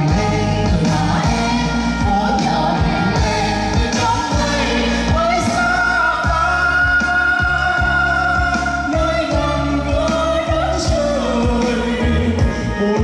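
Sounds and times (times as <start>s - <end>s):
pop song with singer and band: 0.0s - 13.0s.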